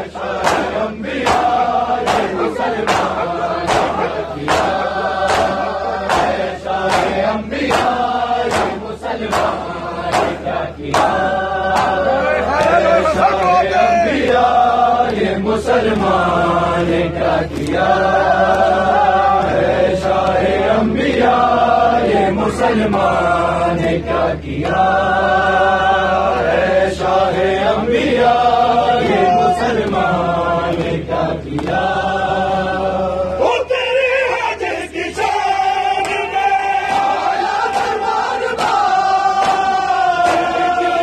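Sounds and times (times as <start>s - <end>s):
men chanting in unison: 0.0s - 41.0s.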